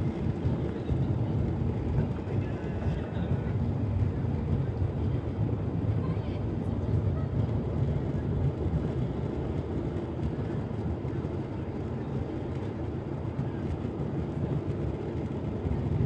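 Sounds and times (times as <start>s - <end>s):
jet engine rumble: 0.0s - 16.0s.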